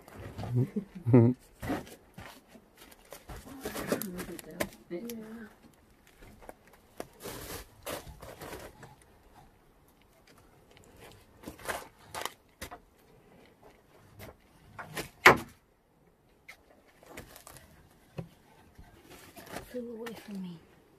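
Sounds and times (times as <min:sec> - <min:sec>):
wooden sticks scraping and clacking: 0:01.6 - 0:15.2, 0:16.4 - 0:20.6.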